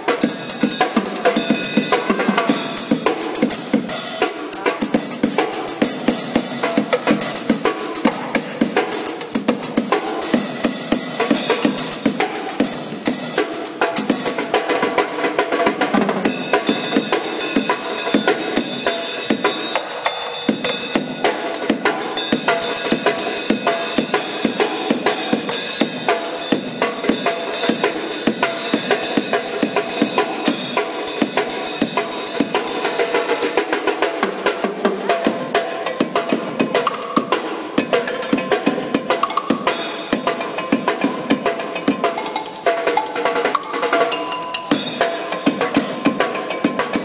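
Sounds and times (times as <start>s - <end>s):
drum kit beat: 0.0s - 47.0s.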